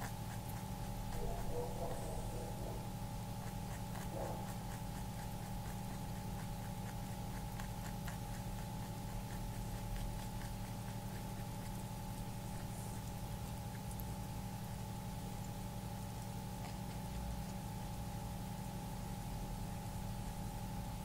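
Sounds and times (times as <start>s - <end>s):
electrical hum: 0.0s - 21.0s
rabbit chewing: 0.0s - 21.0s.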